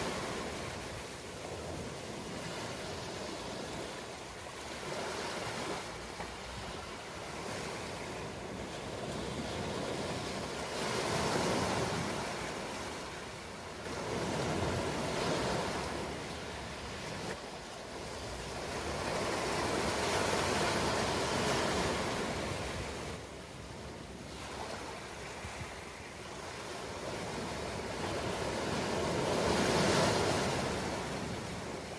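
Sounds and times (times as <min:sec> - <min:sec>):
ocean waves surf: 0:00.0 - 0:31.9.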